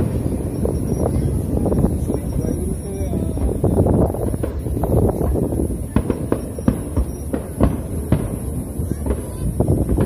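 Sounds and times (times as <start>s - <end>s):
firework shells bursting: 0.0s - 10.0s.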